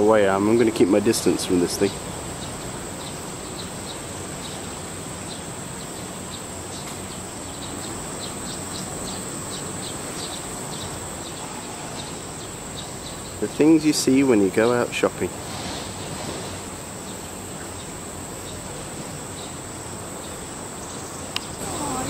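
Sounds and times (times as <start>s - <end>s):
background hiss: 0.0s - 22.0s
insect chirps: 0.0s - 22.0s
insect drone: 0.0s - 22.0s.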